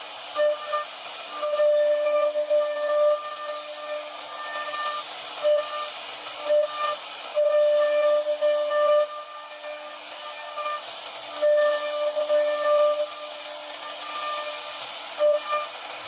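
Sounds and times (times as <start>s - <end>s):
high-pitched cutting whine: 0.0s - 16.0s
router spindle hum and hiss: 0.0s - 16.0s.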